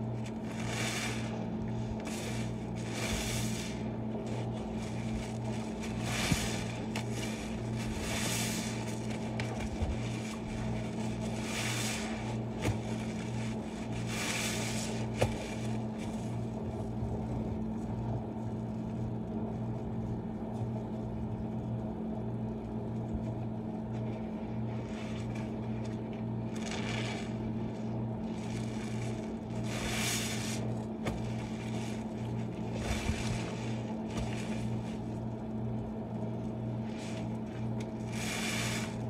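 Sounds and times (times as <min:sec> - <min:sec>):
wet sponge squelching in suds: 0:00.0 - 0:17.5, 0:23.9 - 0:39.0
steady low hum: 0:00.0 - 0:39.0.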